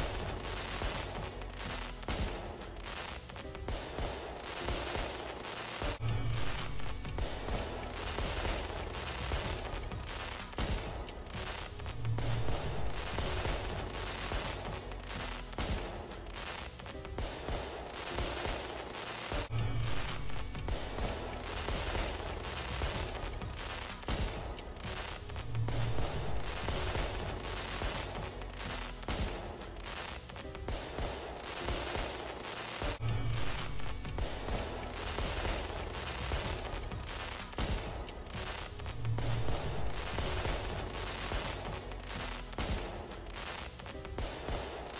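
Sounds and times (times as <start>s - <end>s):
fireworks bangs and crackles: 0.0s - 44.9s
music: 0.0s - 44.9s.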